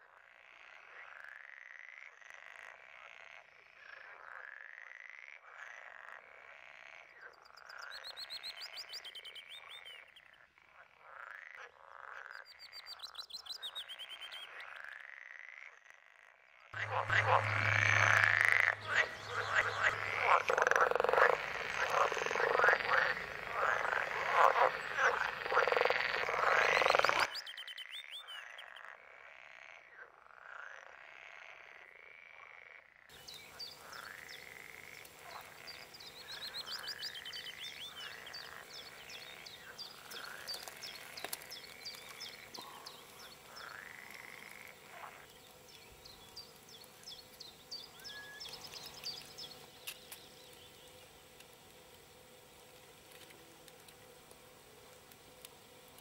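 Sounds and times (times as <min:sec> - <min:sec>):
frogs croaking: 0:00.0 - 0:51.2.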